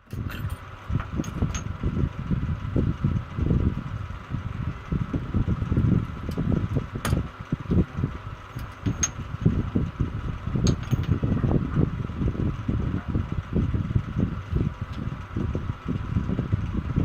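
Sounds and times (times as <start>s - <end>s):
faint steady hum: 0.0s - 17.0s
low rumble of moving air: 0.0s - 17.0s.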